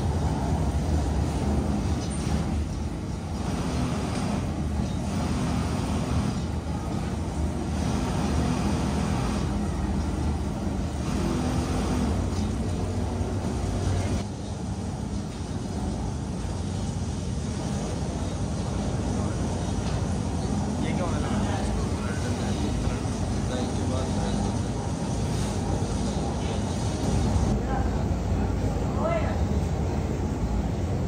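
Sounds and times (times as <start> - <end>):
factory machinery humming: 0.0 - 31.0.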